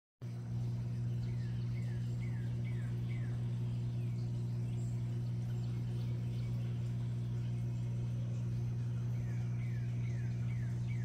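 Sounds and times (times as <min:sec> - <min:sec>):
steady low hum: 0:00.2 - 0:11.0
wild birds chirping: 0:00.4 - 0:11.0.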